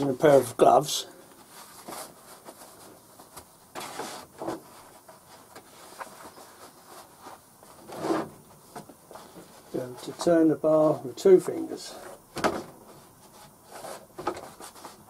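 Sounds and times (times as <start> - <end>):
faint rustling of gloves: 0.0 - 15.0.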